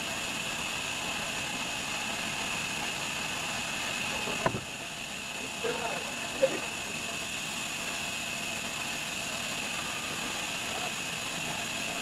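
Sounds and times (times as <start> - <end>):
band saw humming and whining: 0.0 - 12.0.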